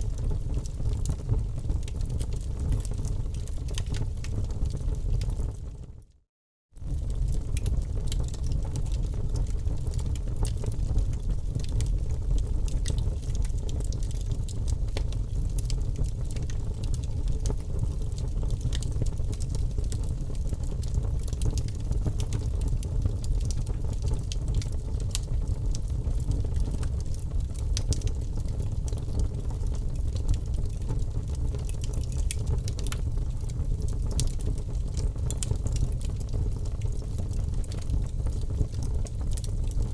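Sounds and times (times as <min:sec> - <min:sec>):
wood fire crackling: 0:00.0 - 0:05.6, 0:06.8 - 0:39.9.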